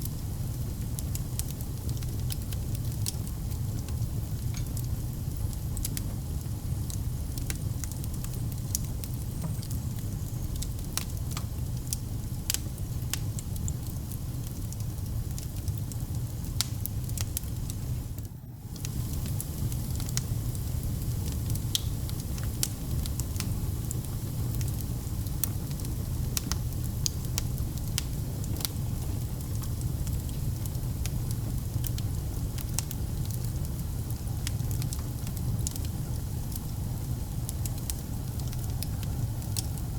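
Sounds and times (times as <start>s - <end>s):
fire crackles and pops: 0.0s - 39.9s
wood fire rumbling: 0.0s - 39.9s.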